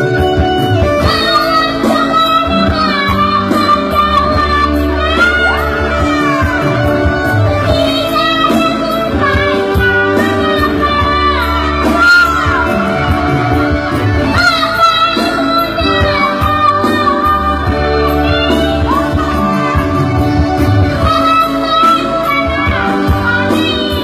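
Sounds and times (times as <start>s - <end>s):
loud instrumental backing music: 0.0s - 24.0s
child singing: 1.0s - 24.0s.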